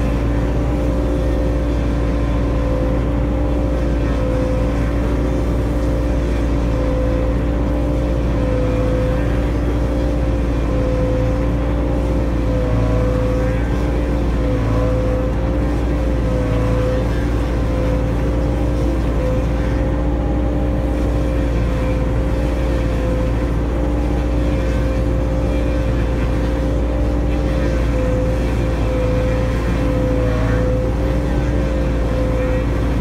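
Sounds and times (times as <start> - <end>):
excavator diesel engine droning: 0.0 - 33.0
stump grinder whine: 0.0 - 33.0.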